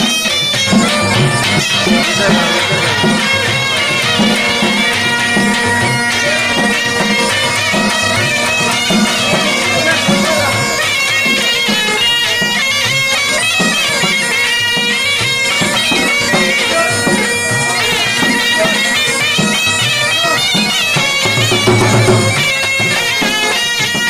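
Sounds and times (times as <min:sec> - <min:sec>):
drum beats: 0:00.0 - 0:24.0
reedy wind melody: 0:00.0 - 0:24.0
steady drone: 0:00.6 - 0:23.2.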